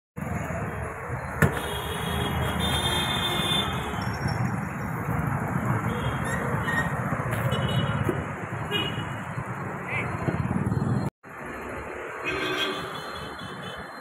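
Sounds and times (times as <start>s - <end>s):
street traffic rumble: 0.2s - 14.0s.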